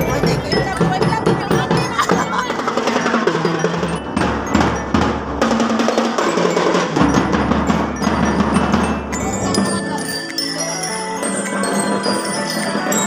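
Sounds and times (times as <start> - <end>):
drums beating: 0.0 - 13.0
ringing bell-lyre notes: 0.0 - 13.0.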